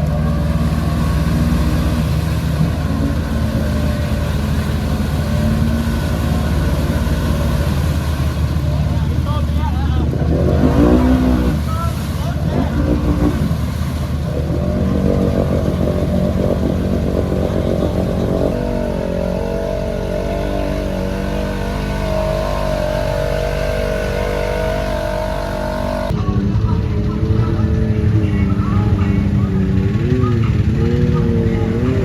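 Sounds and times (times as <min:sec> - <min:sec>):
atv engine revving high: 0:00.0 - 0:32.0.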